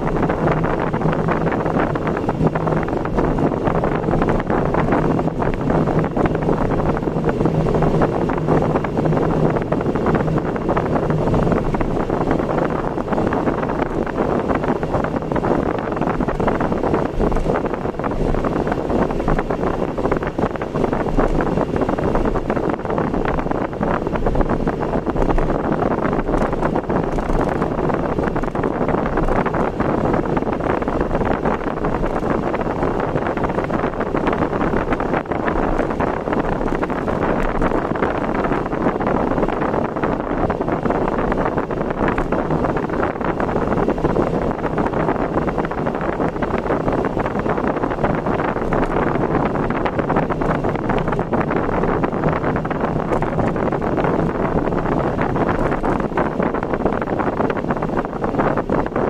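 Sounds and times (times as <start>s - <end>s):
vehicle engine hum: 0.0s - 59.0s
wind buffeting microphone: 0.0s - 59.0s.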